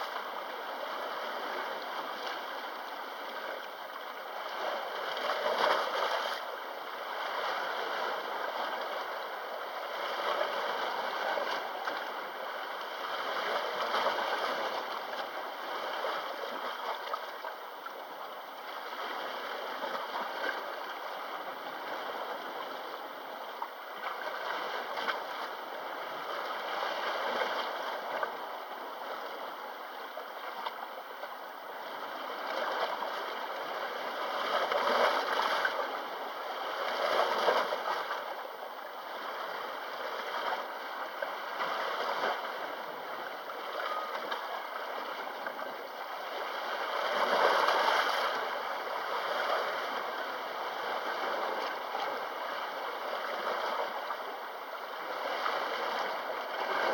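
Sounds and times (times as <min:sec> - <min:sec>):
sea waves lapping at shore: 0:00.0 - 0:56.9.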